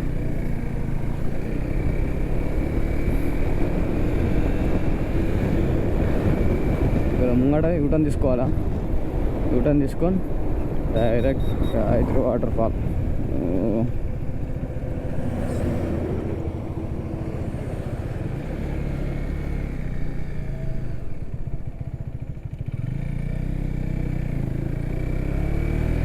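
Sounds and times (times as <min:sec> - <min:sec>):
wind rush and road noise: 0:00.0 - 0:22.7
motorcycle engine running: 0:00.0 - 0:26.0.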